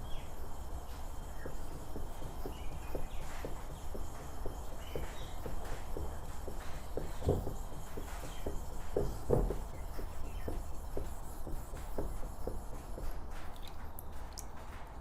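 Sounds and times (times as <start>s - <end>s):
chisel rubbing on wet whetstone: 0.0s - 13.9s.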